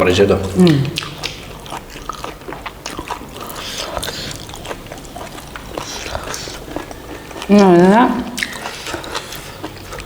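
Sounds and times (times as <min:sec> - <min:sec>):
chewing and wet mouth sounds: 0:00.0 - 0:10.0.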